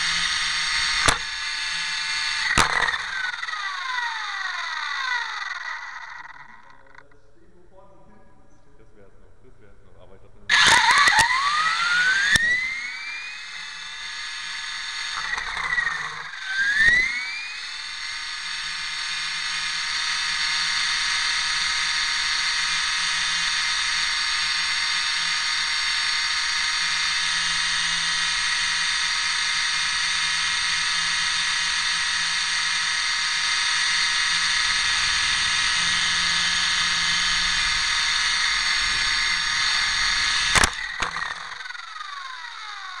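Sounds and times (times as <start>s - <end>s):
model helicopter motor whine: 0.0s - 7.1s, 10.5s - 43.0s.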